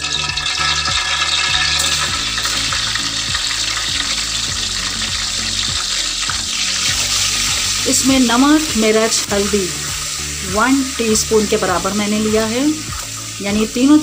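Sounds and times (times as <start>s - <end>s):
oil sizzling in a pot: 0.0s - 14.0s.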